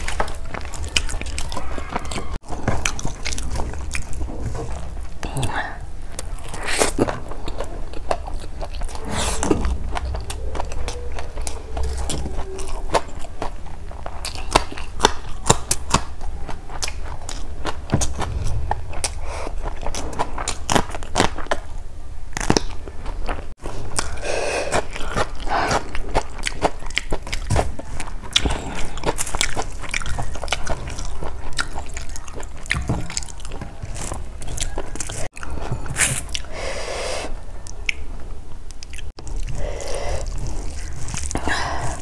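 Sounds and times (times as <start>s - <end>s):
chewing and lip-smacking: 0.0s - 21.7s, 22.4s - 36.5s, 37.6s - 42.0s.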